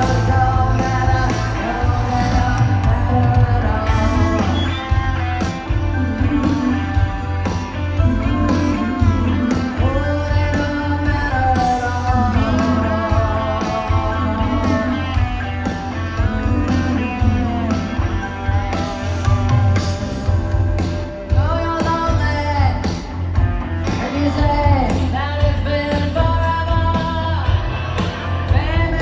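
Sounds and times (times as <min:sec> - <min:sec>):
live rock band playing: 0:00.0 - 0:29.0
woman singing lead: 0:00.0 - 0:29.0.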